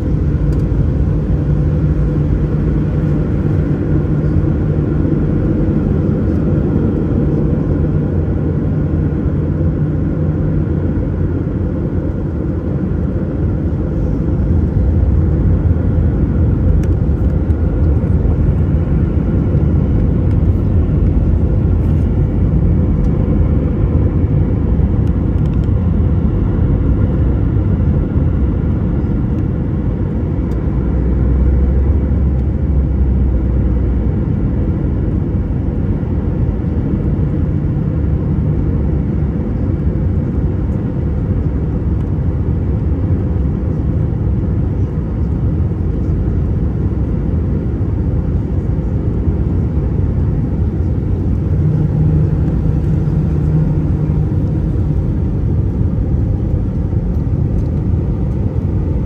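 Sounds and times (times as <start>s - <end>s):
jet engines and airflow roaring: 0.0s - 59.0s.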